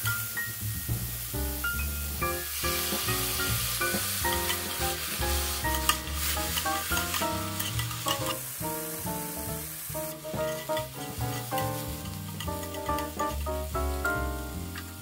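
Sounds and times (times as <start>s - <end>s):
light background music: 0.0s - 15.0s
vegetables sizzling in frying pan: 0.0s - 15.0s.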